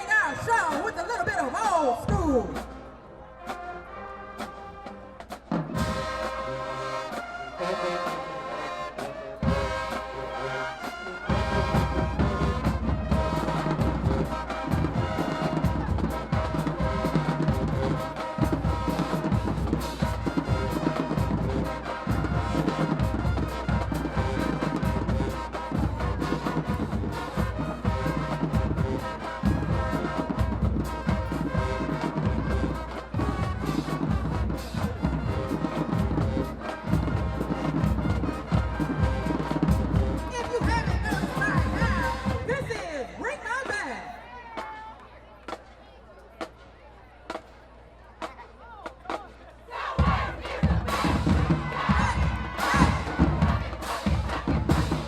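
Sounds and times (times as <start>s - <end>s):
brass chords: 0.0s - 43.7s, 49.7s - 55.0s
drums and low brass beat: 0.0s - 55.0s.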